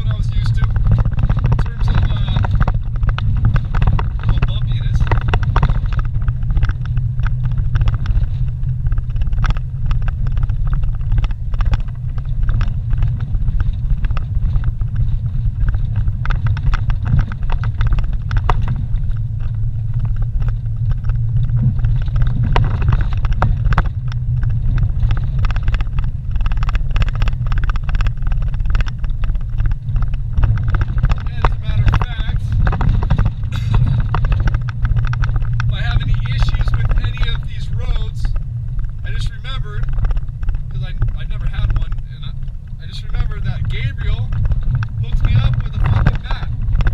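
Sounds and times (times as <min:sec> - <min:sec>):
knocks and rattles over bumps: 0:00.0 - 0:46.9
vehicle rumbling on dirt road: 0:00.0 - 0:46.9.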